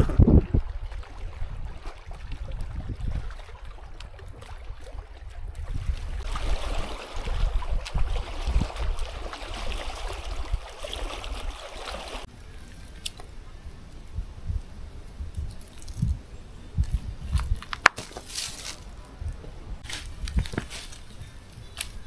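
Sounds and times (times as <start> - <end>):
wind buffeting microphone: 0.0 - 17.9, 18.8 - 22.0.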